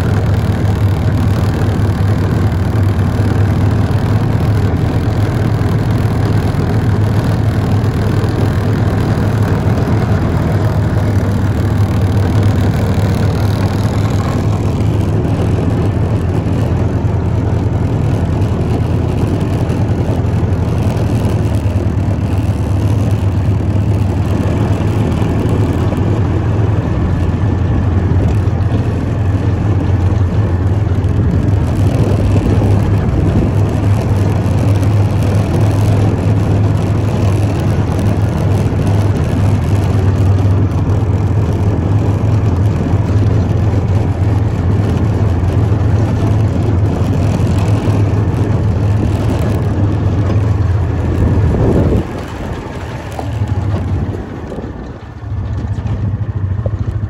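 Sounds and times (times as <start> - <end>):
farm vehicle engine running: 0.0 - 57.0
vehicle rumble and rattle: 0.0 - 57.0.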